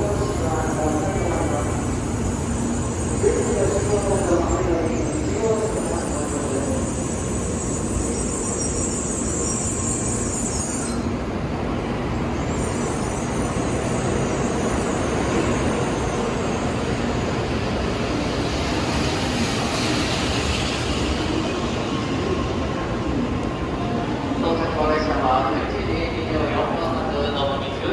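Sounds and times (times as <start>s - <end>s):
train rumbling and rushing: 0.0s - 27.9s.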